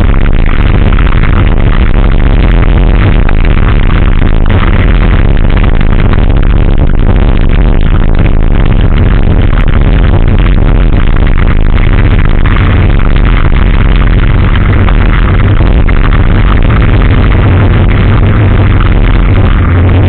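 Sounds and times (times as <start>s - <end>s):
music with heavy bass: 0.0s - 20.0s.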